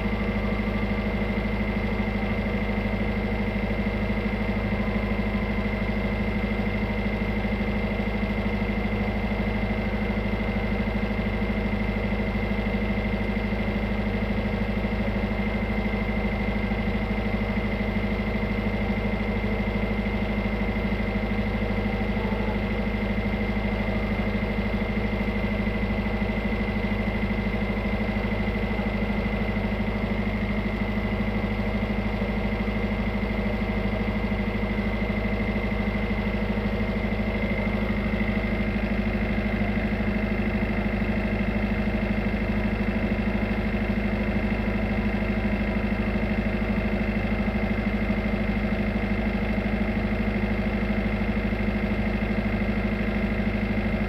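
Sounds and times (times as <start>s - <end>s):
diesel engine droning with whine: 0.0s - 54.0s.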